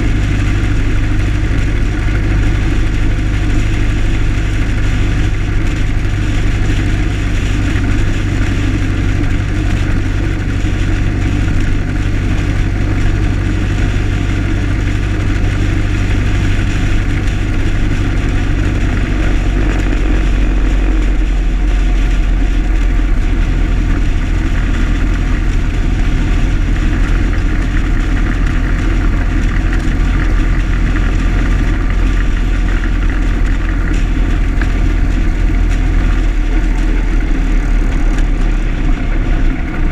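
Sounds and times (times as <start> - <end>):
car engine droning while driving: 0.0 - 39.9.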